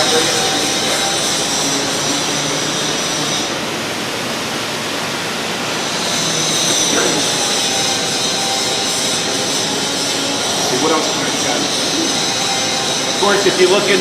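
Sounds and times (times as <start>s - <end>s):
mechanical hiss with high whine: 0.0s - 4.6s, 5.2s - 14.0s.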